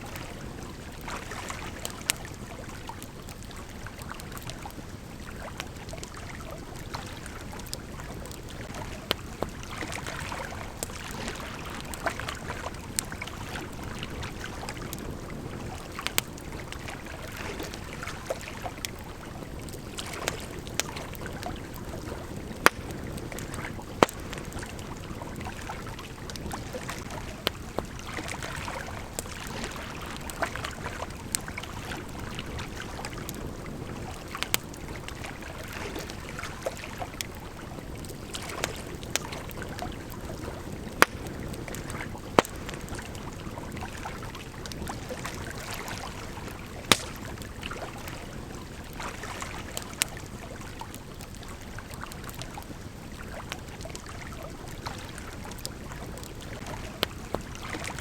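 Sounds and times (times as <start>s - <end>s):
campfire crackling: 0.0s - 58.0s
river flowing: 0.0s - 58.0s.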